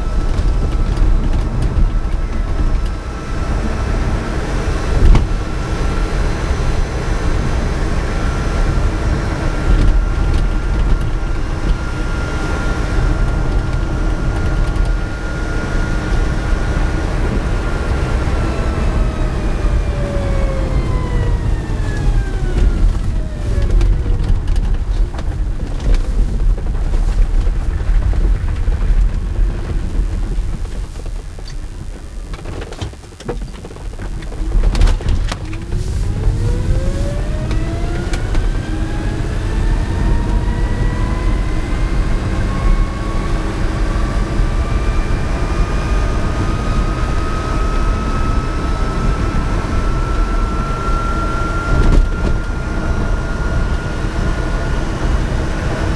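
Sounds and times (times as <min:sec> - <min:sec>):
electric motor whine: 0:00.0 - 0:55.9
tyre and road noise: 0:00.0 - 0:55.9.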